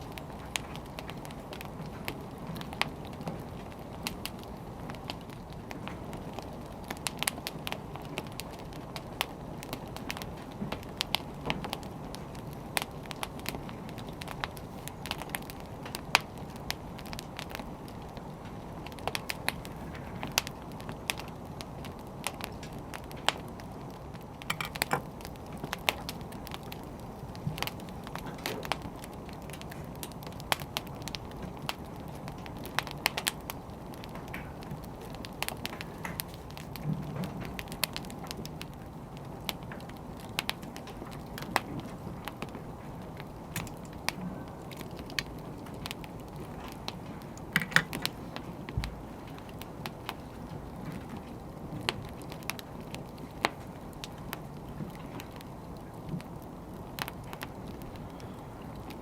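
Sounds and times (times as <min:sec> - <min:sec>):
fire rumbling: 0:00.0 - 0:59.0
firewood crackling and popping: 0:00.0 - 0:59.0.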